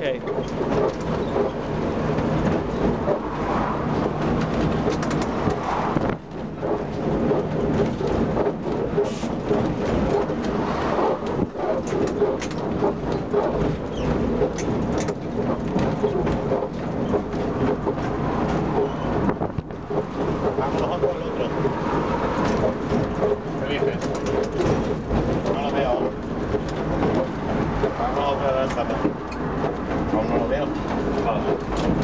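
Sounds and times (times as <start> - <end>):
tram wheels rumbling and rattling: 0.0 - 32.0.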